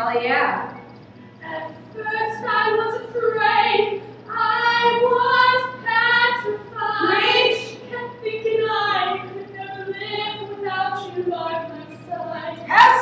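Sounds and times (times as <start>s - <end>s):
woman singing unaccompanied: 1.4s - 13.0s.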